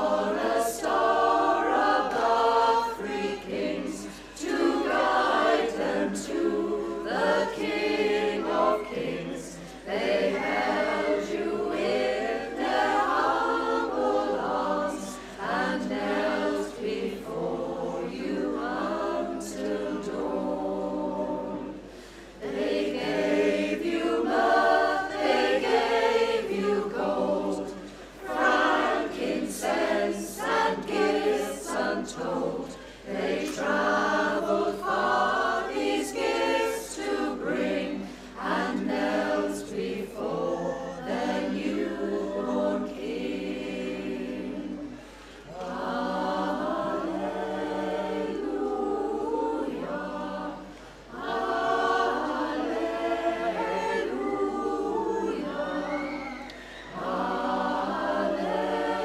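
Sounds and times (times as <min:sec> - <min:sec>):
women's choir singing a cappella: 0:00.0 - 0:59.0.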